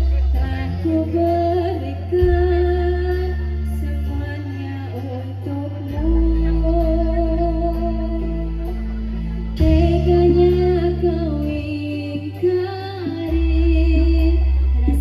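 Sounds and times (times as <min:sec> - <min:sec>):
held bass and drone notes: 0:00.0 - 0:15.0
woman singing: 0:00.0 - 0:15.0.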